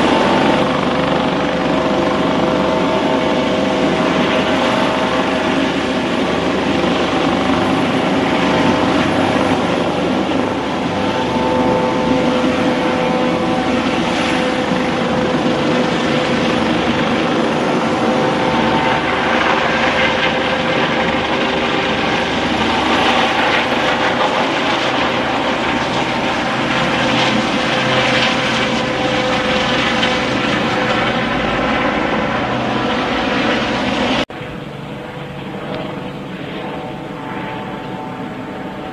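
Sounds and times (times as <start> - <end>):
helicopter hovering: 0.0 - 38.9.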